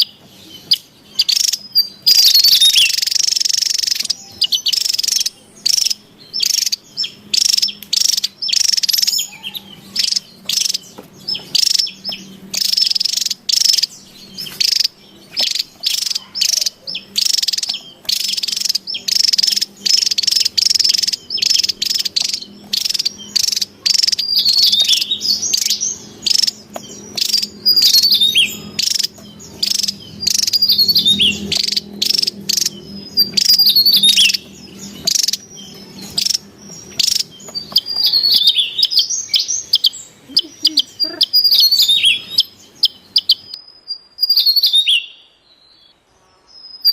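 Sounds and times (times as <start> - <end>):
bird calling: 0.0 - 46.0
insects: 0.0 - 46.9
low hum: 3.8 - 43.6.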